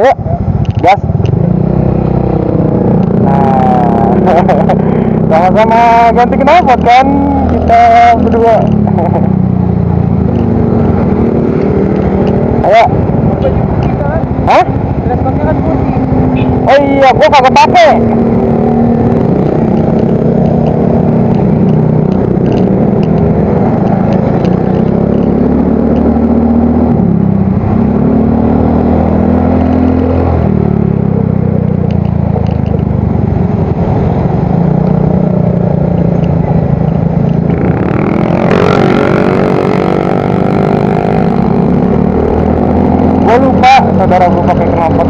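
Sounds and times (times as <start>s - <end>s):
scooter engine revving: 0.2s - 45.0s
higher engine note: 1.3s - 45.0s.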